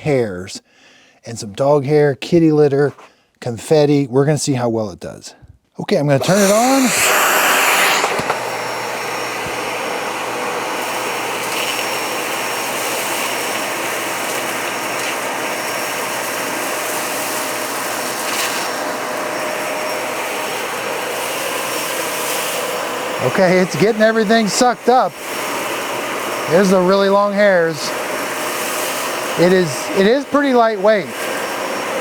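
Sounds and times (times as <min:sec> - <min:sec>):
vacuum cleaner running: 0:06.2 - 0:32.0.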